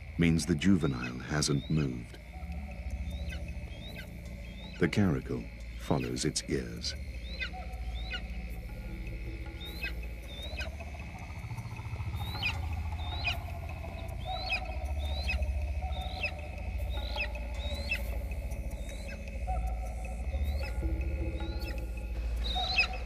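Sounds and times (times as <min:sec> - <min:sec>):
low steady drone: 0:00.0 - 0:23.0
juvenile animal chirps: 0:00.5 - 0:23.0.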